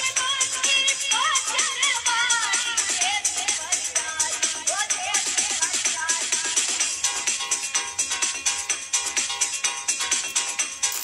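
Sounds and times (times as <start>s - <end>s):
fast beat background music: 0.0s - 11.0s.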